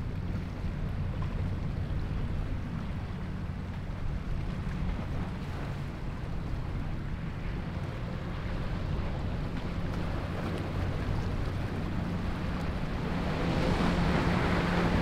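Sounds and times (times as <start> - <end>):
boat spray and wake hiss: 0.0 - 15.0
outboard engines droning: 0.0 - 15.0.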